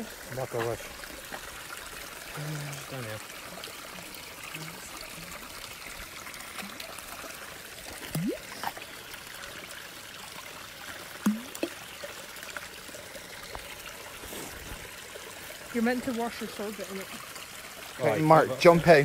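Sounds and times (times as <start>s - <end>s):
water trickling: 0.0s - 19.0s.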